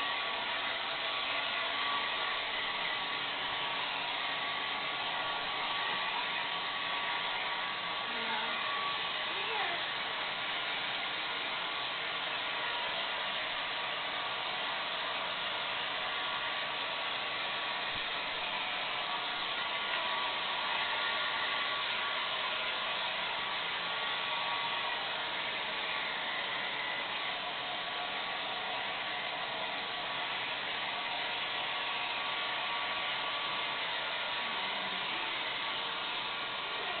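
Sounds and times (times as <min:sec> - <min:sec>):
hair dryer running: 0:00.0 - 0:37.0.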